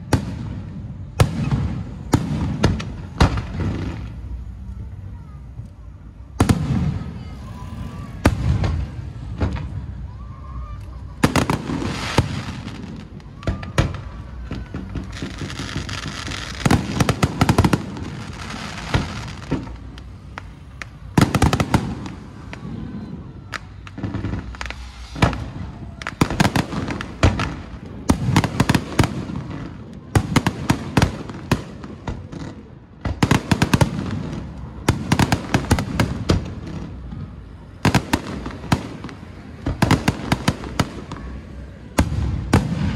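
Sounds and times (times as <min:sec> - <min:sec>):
firecrackers banging and crackling: 0:00.0 - 0:42.9.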